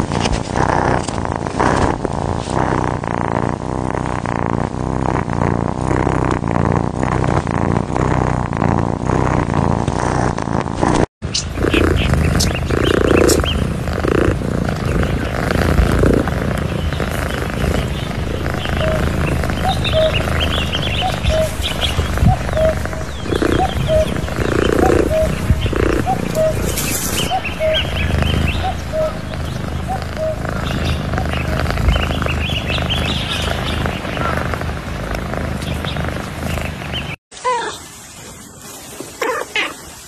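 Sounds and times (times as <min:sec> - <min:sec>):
cats purring: 0:00.0 - 0:37.2.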